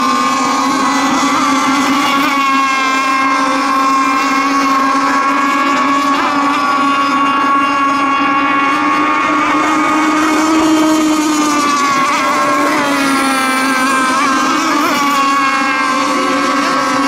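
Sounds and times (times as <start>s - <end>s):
racing boats high-pitched whine: 0.0s - 17.0s.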